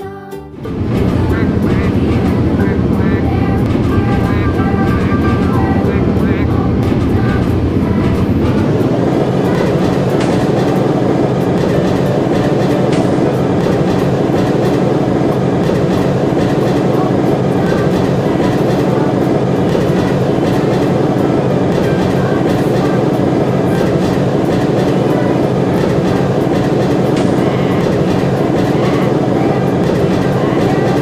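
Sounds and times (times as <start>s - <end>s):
wheels rattling and clicking on track: 0.6s - 31.0s.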